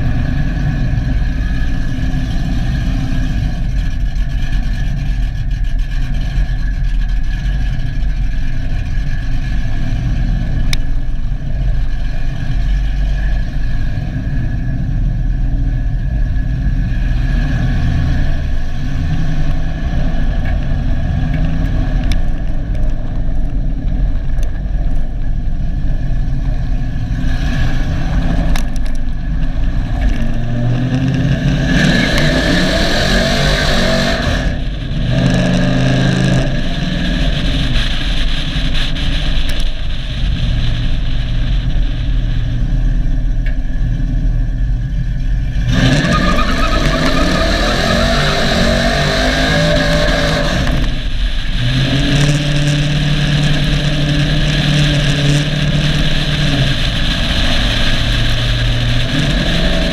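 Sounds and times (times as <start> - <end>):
pickup truck engine revving: 0.0 - 24.9, 25.7 - 59.9.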